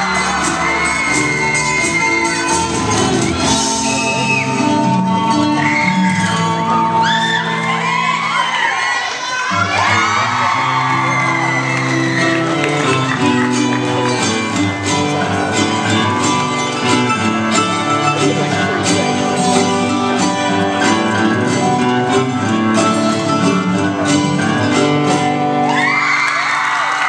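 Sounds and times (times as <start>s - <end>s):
song with guitar: 0.0s - 8.5s, 9.5s - 27.0s
crowd cheering and whooping: 0.0s - 22.6s, 25.4s - 27.0s.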